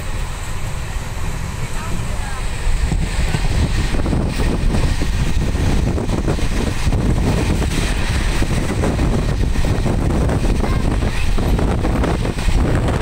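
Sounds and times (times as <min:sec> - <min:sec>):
vehicle running noise: 0:00.0 - 0:13.0
wind rushing through car window: 0:01.1 - 0:13.0.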